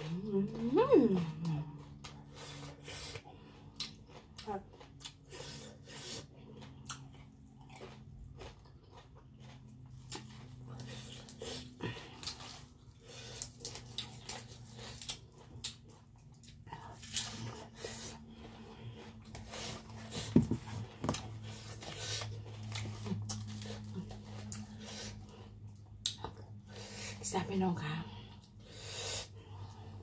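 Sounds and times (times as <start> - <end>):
steady low hum: 0.0 - 30.0
chewing crunches: 1.2 - 26.8.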